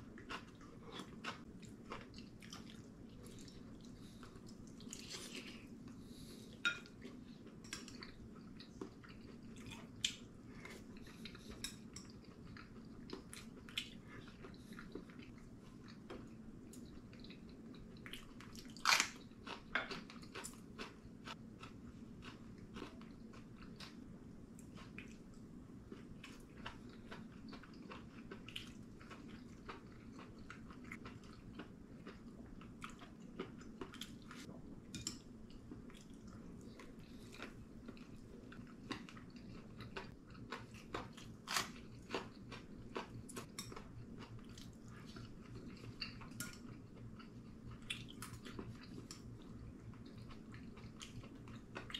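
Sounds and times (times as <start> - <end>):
person chewing and crunching: 0.0 - 51.9.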